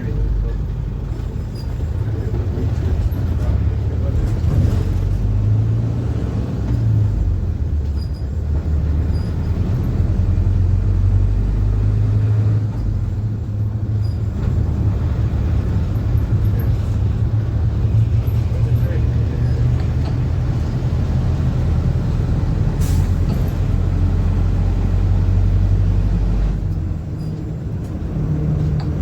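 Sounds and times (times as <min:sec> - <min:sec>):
bus diesel engine drone: 0:00.0 - 0:29.0.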